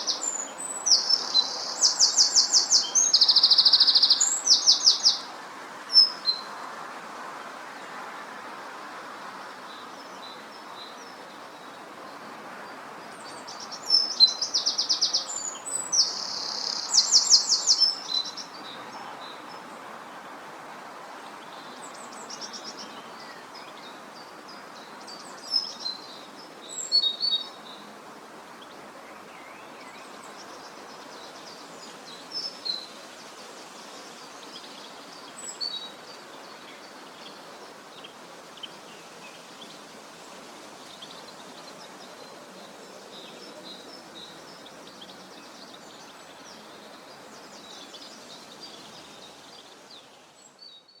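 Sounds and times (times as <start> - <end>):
songbirds chirping and trilling: 0.0 - 6.9, 9.0 - 51.0
outdoor background hiss: 0.0 - 51.0.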